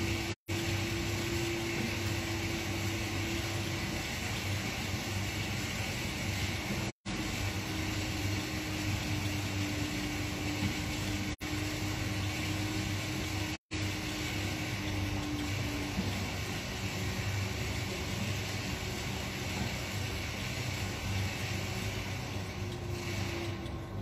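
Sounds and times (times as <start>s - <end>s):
mechanical whir and hum: 0.0s - 24.0s.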